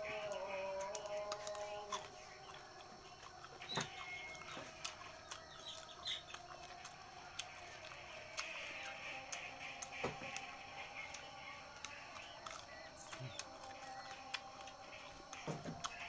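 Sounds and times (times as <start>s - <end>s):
bird calls: 0.0s - 16.0s
chewing crisp fruit: 0.0s - 16.0s.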